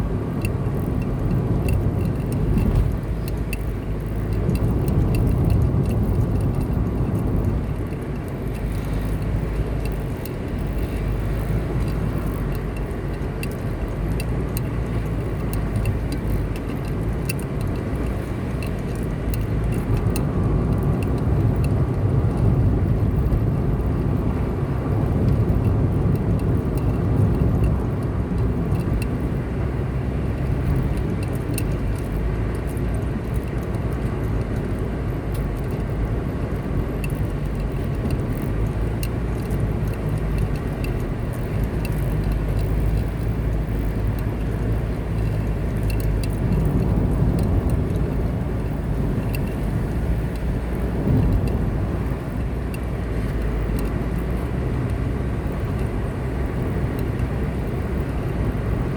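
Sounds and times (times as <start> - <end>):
car engine and tyres rumbling: 0.0 - 58.9
faint light ticks: 0.0 - 58.9.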